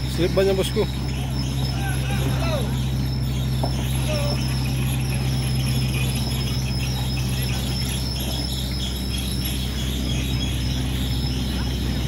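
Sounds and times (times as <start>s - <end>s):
bus engine running: 0.0s - 12.0s
high-pitched whine: 0.0s - 12.0s.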